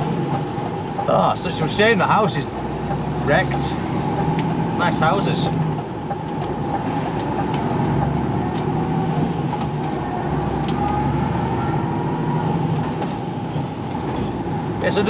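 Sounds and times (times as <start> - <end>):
lorry engine drone: 0.0 - 15.0
road noise: 0.0 - 15.0.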